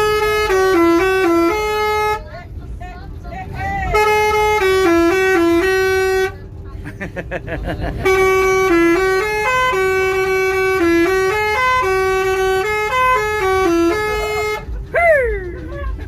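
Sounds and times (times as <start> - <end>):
bus horn playing melody: 0.0 - 2.8, 3.4 - 6.6, 7.7 - 16.0.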